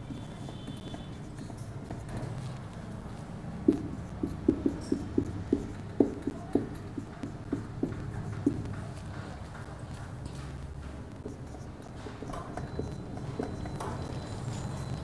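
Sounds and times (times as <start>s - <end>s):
marker pen writing on whiteboard: 0.0s - 15.0s.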